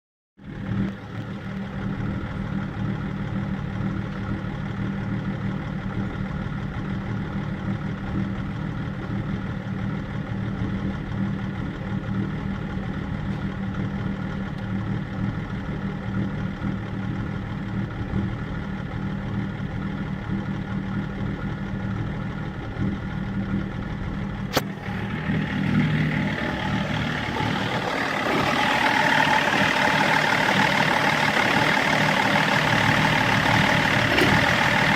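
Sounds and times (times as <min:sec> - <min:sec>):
diesel engine idling: 0:00.4 - 0:34.9.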